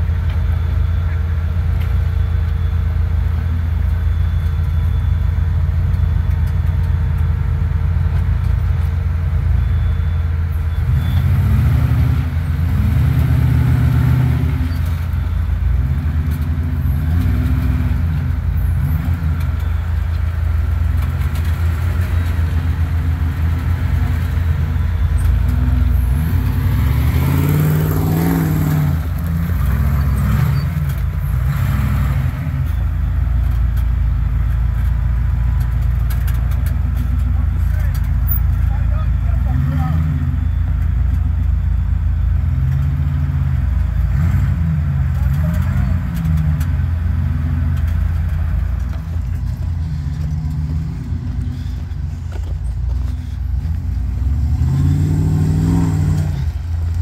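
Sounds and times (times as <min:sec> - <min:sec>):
off-road engine revving: 0:00.0 - 0:57.0.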